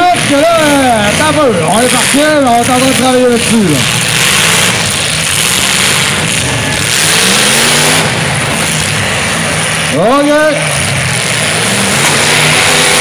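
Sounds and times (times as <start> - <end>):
car engines revving: 0.0 - 13.0
loud steady din: 0.0 - 13.0.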